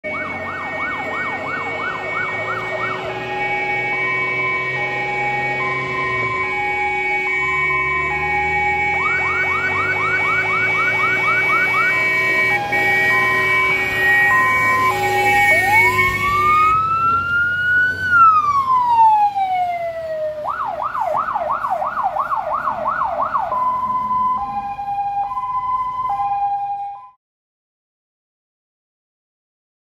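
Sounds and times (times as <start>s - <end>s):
fire engine siren: 0.0s - 27.2s
fire truck engine: 0.0s - 27.2s.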